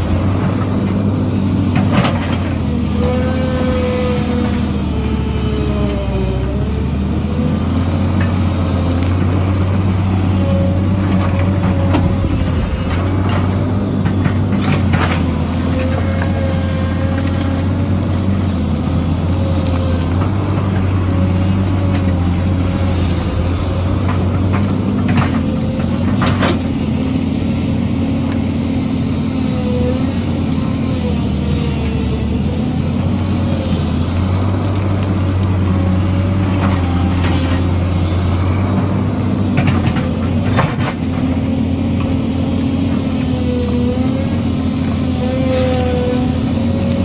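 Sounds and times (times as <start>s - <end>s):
heavy machine engine running: 0.0s - 47.0s.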